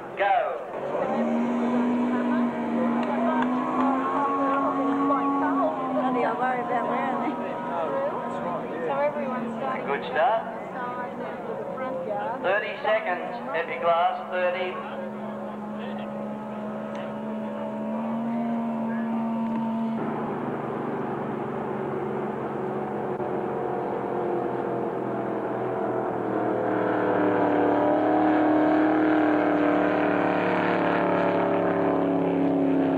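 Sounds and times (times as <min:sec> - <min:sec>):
boat engines running hard: 0:00.8 - 0:32.9.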